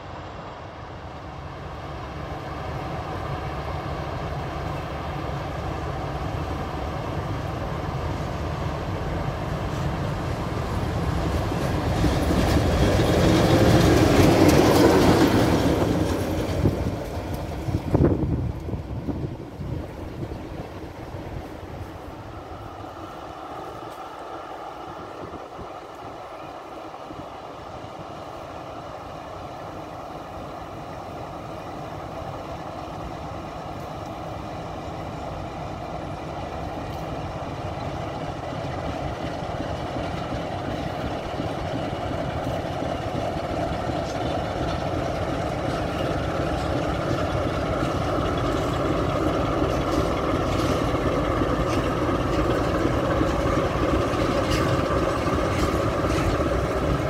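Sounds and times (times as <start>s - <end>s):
locomotive engine running: 0.0s - 57.0s.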